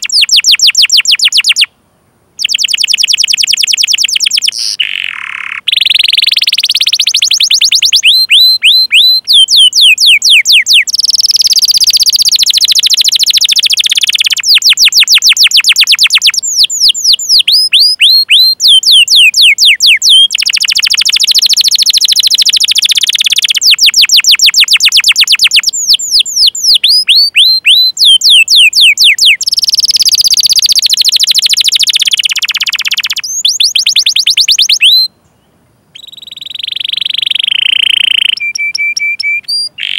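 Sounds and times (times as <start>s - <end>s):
canary singing: 0.0s - 1.7s, 2.4s - 35.2s, 35.9s - 39.9s.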